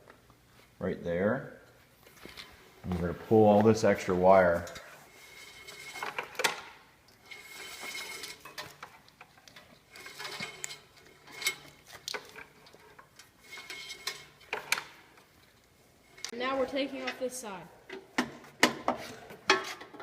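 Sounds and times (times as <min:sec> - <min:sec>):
hand work on metal parts: 0:01.7 - 0:20.0.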